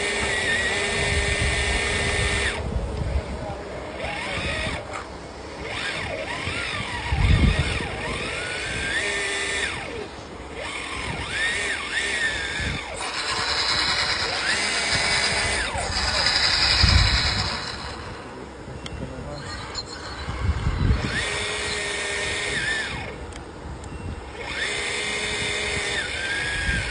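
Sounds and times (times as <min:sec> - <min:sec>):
hydraulic pump whining: 0:00.0 - 0:26.9.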